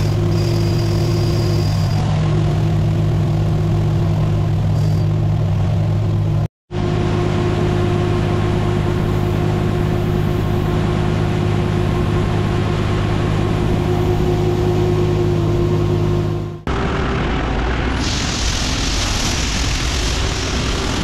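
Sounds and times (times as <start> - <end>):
combine and tractor engines droning: 0.0 - 21.0.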